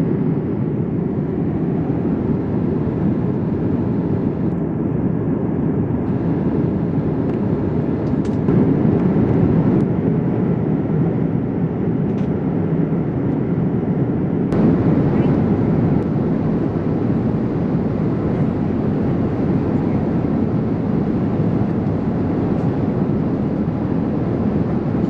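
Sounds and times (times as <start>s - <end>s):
airliner cabin rumble: 0.0s - 11.2s, 13.1s - 25.0s.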